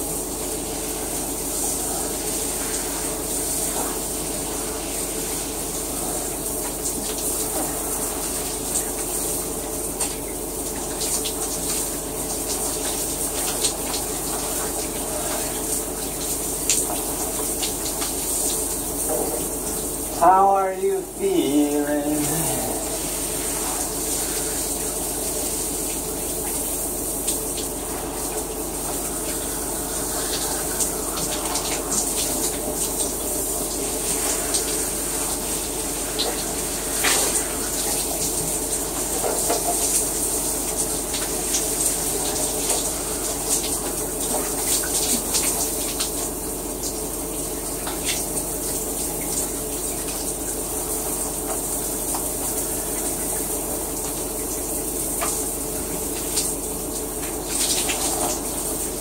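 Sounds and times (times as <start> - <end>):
shower water running: 0.0 - 59.0
water spatters and drips: 2.3 - 20.1, 22.2 - 59.0.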